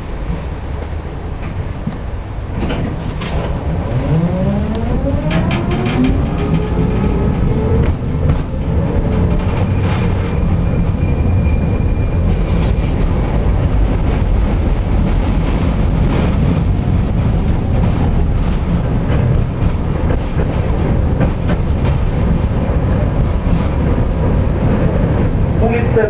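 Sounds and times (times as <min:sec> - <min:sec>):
tram rumbling along rails: 0:00.0 - 0:26.0
wheels clacking over rail joints: 0:02.5 - 0:26.0.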